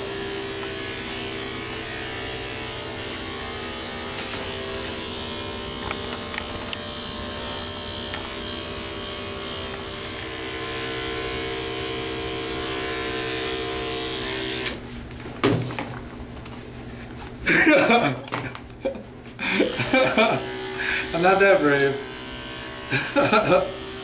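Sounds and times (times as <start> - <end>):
electric clippers humming: 0.0 - 15.0, 17.4 - 24.0.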